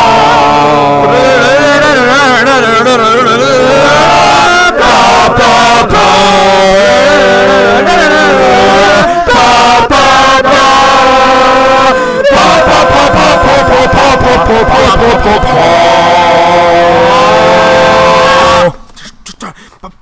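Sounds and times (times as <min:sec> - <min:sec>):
layered a cappella singing: 0:00.0 - 0:18.8.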